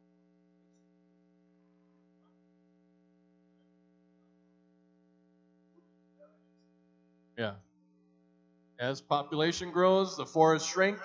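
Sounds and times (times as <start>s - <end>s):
faint electrical hum: 0.1s - 11.0s.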